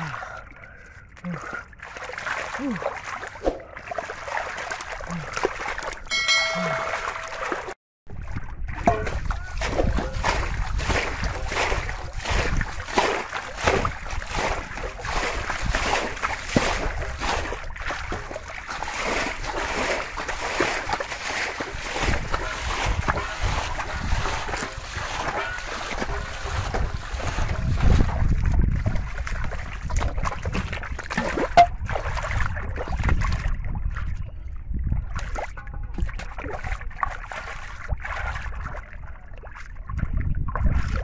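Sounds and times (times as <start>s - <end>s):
hands splashing in muddy water: 1.2s - 34.2s, 35.1s - 41.0s.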